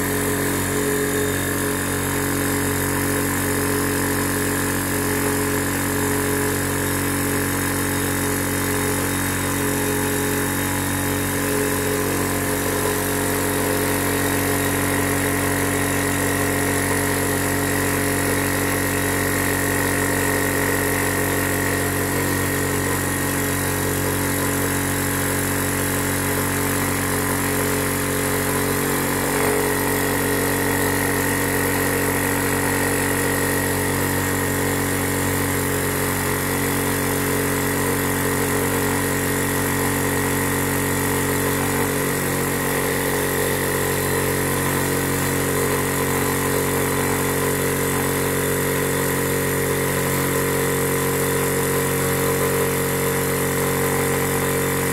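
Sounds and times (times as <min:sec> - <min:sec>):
air compressor running: 0:00.0 - 0:54.9.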